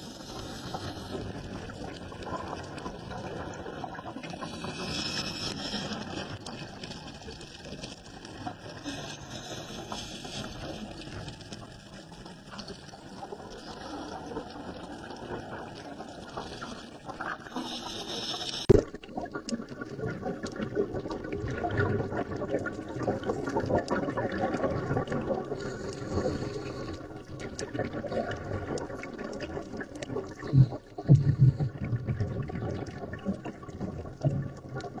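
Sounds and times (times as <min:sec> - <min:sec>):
diver exhaled bubbles gurgling: 0:00.0 - 0:35.0
crackle of small clicks: 0:00.4 - 0:35.0.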